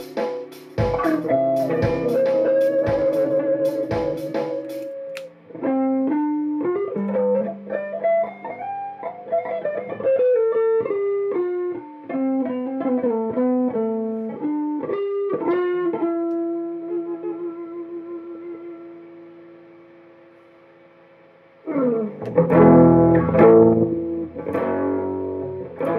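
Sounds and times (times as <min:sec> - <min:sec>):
electric guitar melody: 0:00.0 - 0:20.3, 0:21.5 - 0:25.9.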